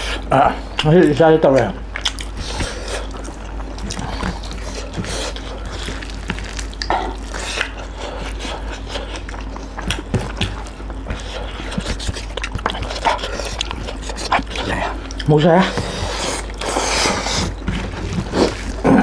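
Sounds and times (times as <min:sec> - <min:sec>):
chewing and lip smacking: 0:00.0 - 0:17.7
steady low hum: 0:00.0 - 0:19.0.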